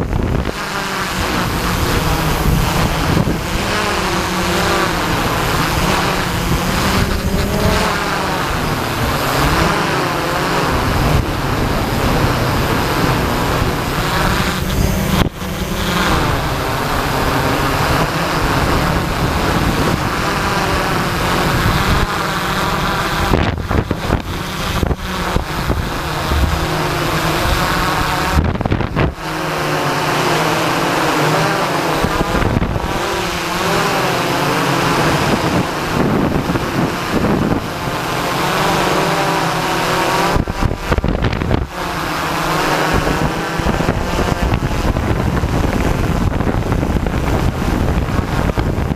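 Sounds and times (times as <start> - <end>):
drone motors buzzing: 0.0 - 48.9.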